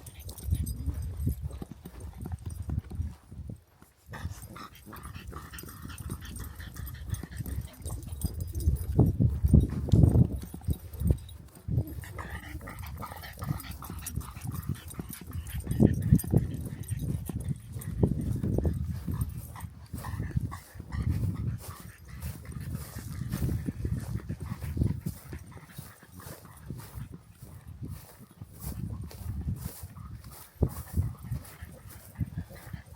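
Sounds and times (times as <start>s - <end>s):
dog sounds: 4.1s - 32.9s.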